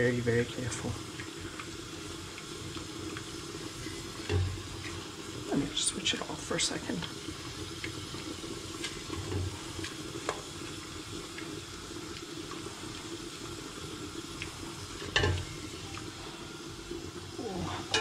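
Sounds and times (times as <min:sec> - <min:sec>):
roux sizzling in hot oil: 0:00.0 - 0:18.0.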